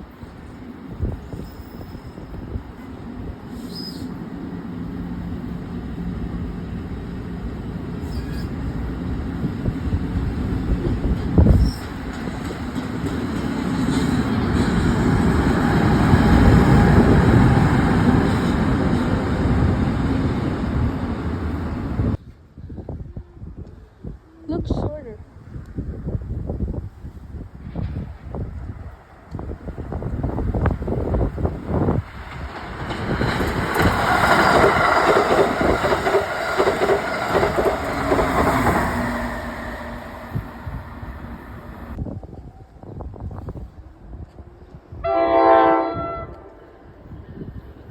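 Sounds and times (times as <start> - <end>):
train passing rumble: 0.0 - 22.6, 25.3 - 47.9.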